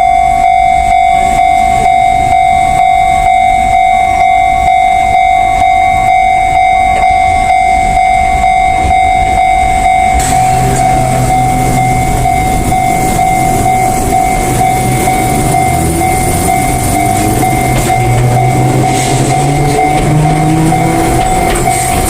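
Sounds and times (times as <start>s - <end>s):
electric train running: 0.0s - 22.0s
level crossing alarm ringing: 0.0s - 22.0s
train motor whine rising: 0.0s - 22.0s.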